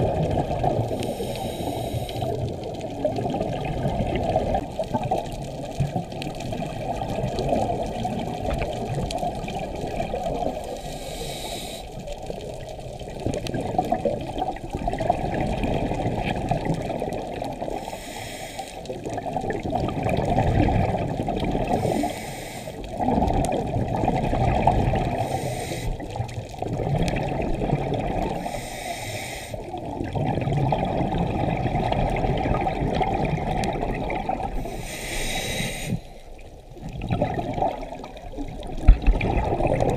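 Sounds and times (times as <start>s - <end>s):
underwater exhaust bubbling: 0.0s - 39.9s.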